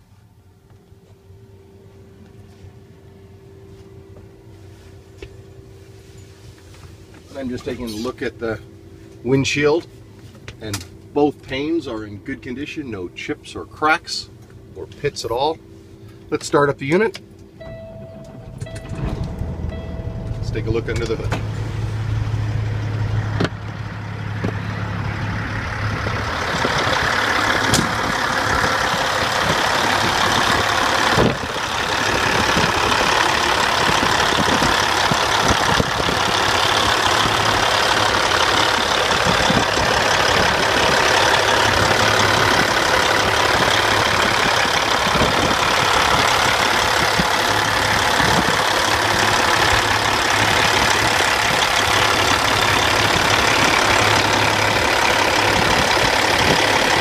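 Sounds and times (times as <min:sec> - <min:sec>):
diesel truck engine idling: 0:01.2 - 0:57.0.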